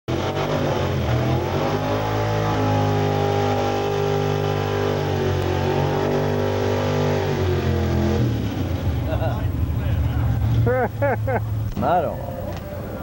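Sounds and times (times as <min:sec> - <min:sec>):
truck engine revving under load: 0:00.1 - 0:13.0.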